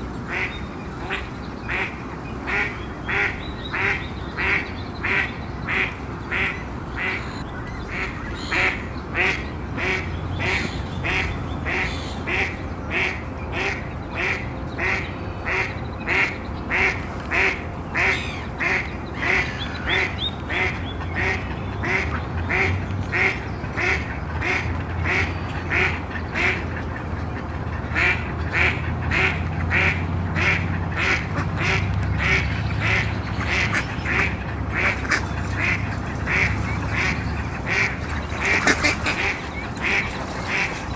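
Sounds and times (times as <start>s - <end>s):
ducks quacking: 0.3s - 40.9s.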